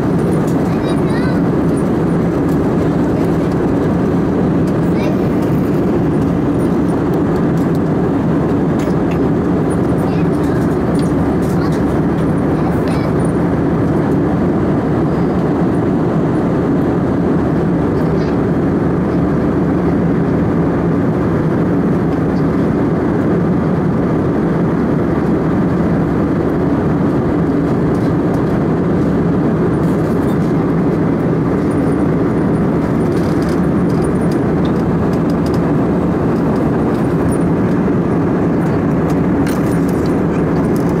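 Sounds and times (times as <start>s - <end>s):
airplane engine and cabin drone: 0.0s - 41.0s.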